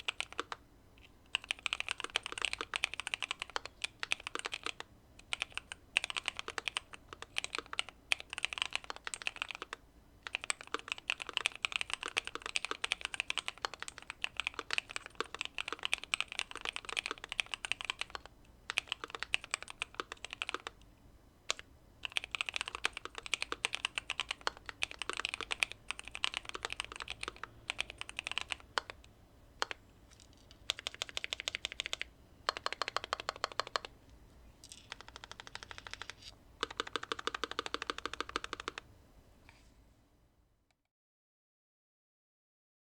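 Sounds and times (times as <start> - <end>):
mechanical keyboard typing: 0.0 - 20.8, 21.5 - 33.9, 34.6 - 38.9.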